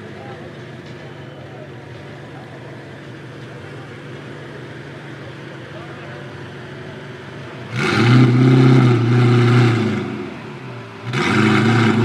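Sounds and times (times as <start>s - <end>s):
sports car engine idling and revving: 0.0s - 12.0s.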